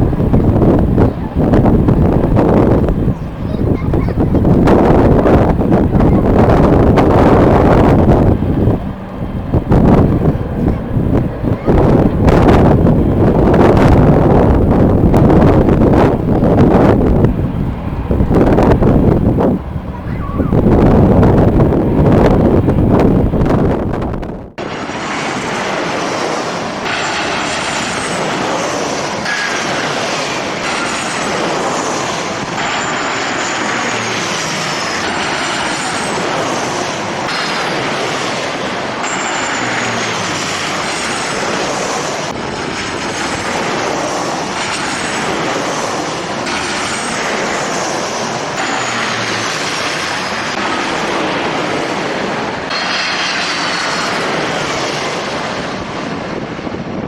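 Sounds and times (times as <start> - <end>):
jet engines with turbine whine: 0.0 - 57.0.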